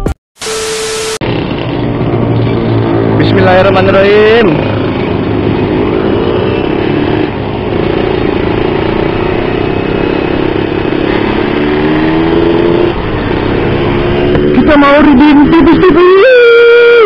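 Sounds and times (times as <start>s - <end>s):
motorcycle engine accelerating: 1.2s - 17.0s.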